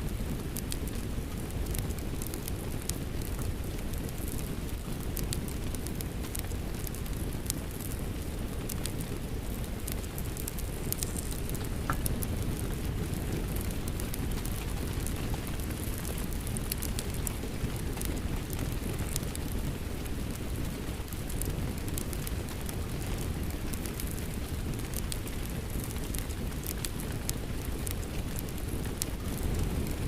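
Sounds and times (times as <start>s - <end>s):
rain: 0.0s - 30.0s
wood fire crackling and popping: 0.0s - 30.0s.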